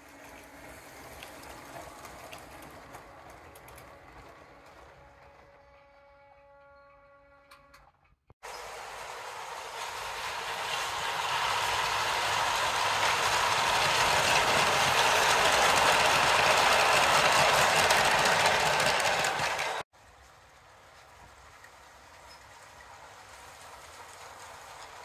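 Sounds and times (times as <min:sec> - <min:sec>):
model train wheels rattling on track: 0:00.0 - 0:07.9, 0:08.5 - 0:25.0.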